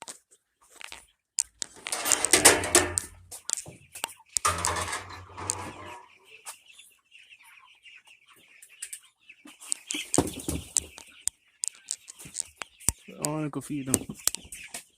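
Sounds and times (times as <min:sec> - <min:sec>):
fowl clucking: 0:02.1 - 0:14.9.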